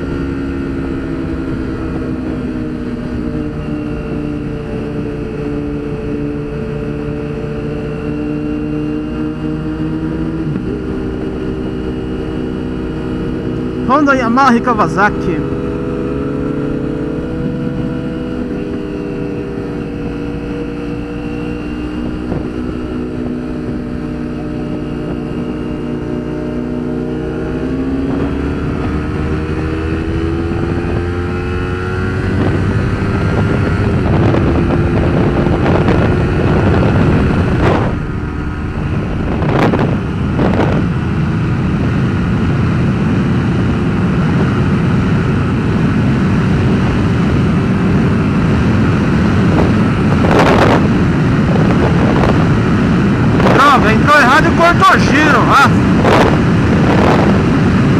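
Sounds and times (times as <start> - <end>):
motorcycle engine revving: 0.0 - 57.9
wind noise in helmet: 0.0 - 57.9.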